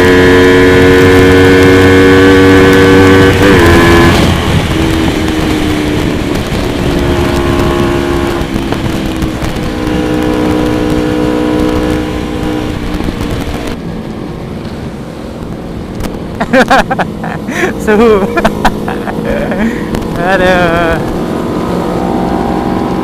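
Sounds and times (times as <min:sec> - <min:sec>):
motorcycle engine running: 0:00.0 - 0:21.4
wind rush on microphone: 0:00.0 - 0:23.0.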